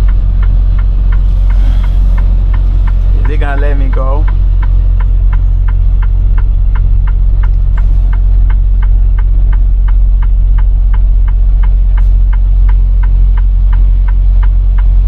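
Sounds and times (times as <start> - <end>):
diesel engine idling: 0.0 - 15.0
turn signal ticking: 0.0 - 15.0.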